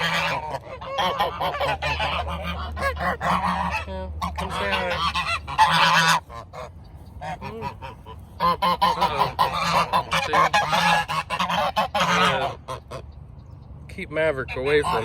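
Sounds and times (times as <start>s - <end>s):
geese honking: 0.0s - 13.2s, 14.2s - 15.0s.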